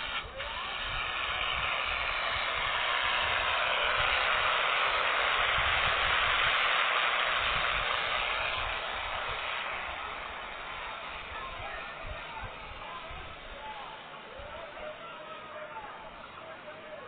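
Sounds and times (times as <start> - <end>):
tractor pulling a harrow: 0.0 - 17.0.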